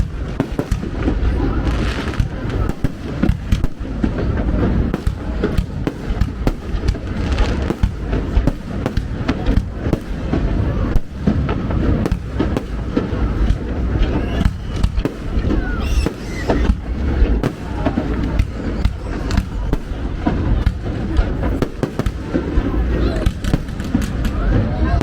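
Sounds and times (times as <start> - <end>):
crackling fireworks: 0.0 - 25.0.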